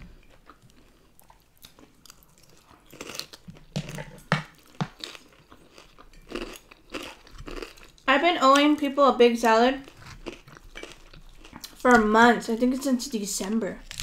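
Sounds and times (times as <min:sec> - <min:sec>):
chewing crunchy food: 0:00.0 - 0:08.6, 0:09.4 - 0:12.1.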